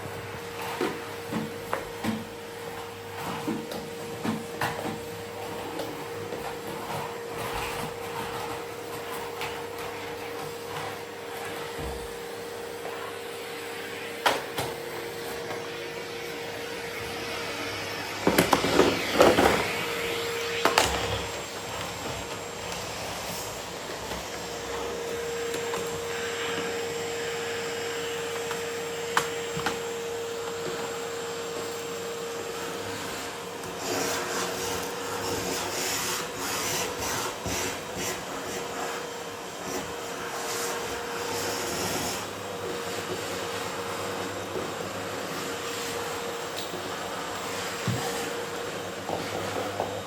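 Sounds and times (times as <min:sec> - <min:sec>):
vacuum cleaner running: 0:00.0 - 0:50.0.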